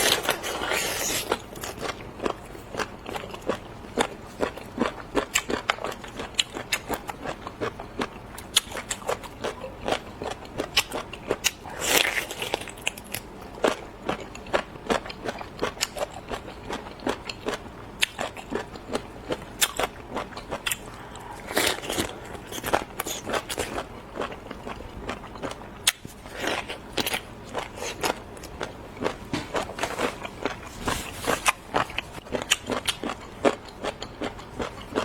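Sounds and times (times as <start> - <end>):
crunchy chewing of food: 0.0 - 35.0.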